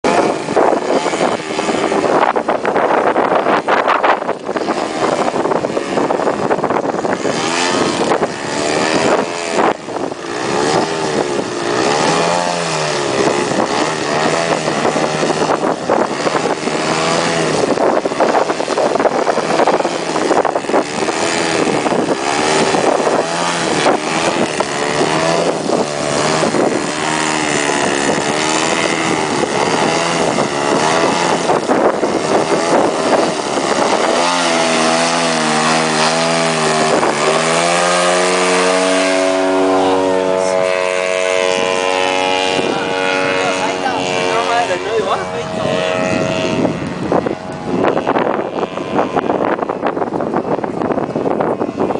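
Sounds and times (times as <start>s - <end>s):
model aircraft engine: 0.0s - 51.9s.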